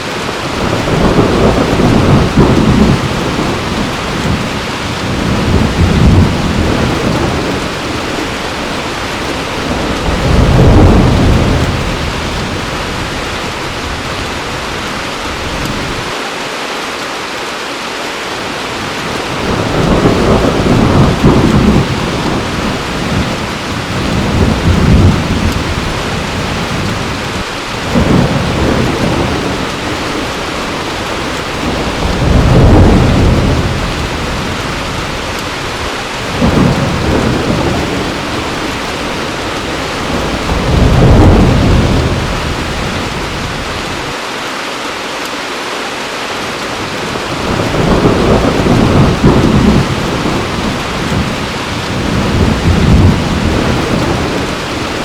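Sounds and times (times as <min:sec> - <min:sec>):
heavy rain falling: 0:00.0 - 0:55.0
rolls of thunder: 0:00.5 - 0:12.9, 0:19.1 - 0:35.4, 0:36.2 - 0:44.0, 0:47.3 - 0:55.0.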